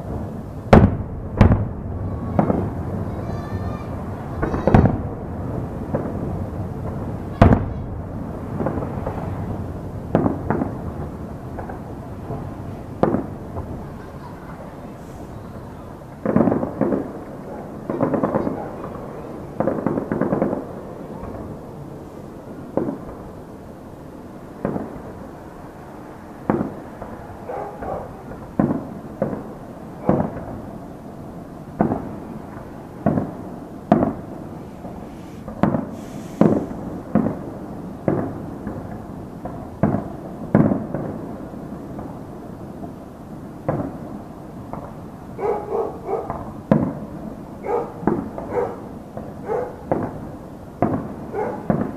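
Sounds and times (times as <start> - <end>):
fireworks bangs with echo: 0.0 - 51.9
fireworks crackling: 0.0 - 51.9.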